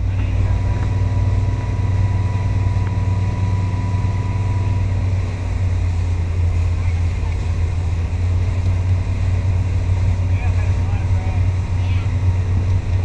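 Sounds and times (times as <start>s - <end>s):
motorboat engine rumbling: 0.0s - 13.0s
wake rushing: 0.0s - 13.0s.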